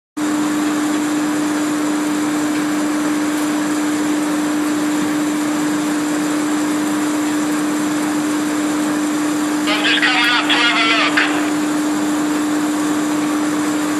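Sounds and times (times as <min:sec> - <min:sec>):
grain elevator machine hum: 0:00.2 - 0:13.9.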